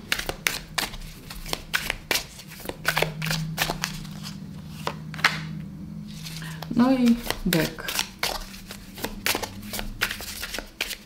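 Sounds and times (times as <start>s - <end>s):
cards being shuffled: 0.0s - 5.5s, 6.1s - 11.0s.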